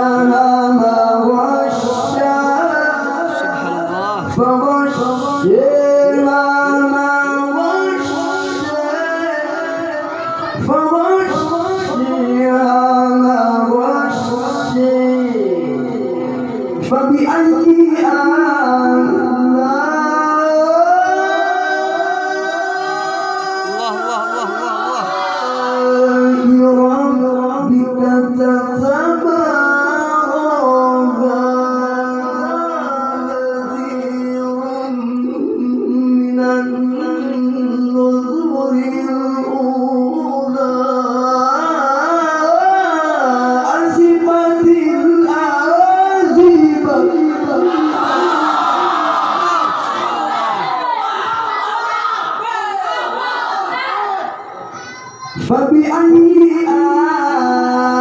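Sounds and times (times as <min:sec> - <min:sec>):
man chanting amplified: 0:00.0 - 0:50.6, 0:55.3 - 0:58.0
man reciting melodically: 0:00.0 - 0:50.6, 0:55.3 - 0:58.0.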